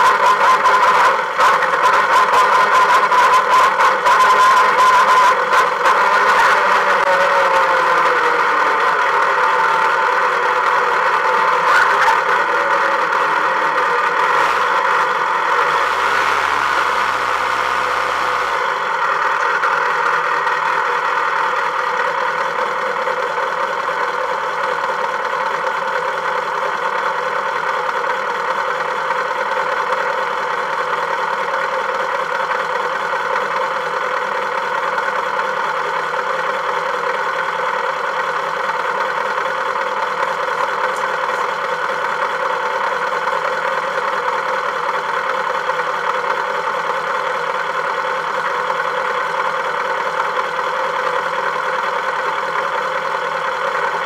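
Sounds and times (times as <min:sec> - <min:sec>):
car engine running steadily: 0:00.0 - 0:54.0.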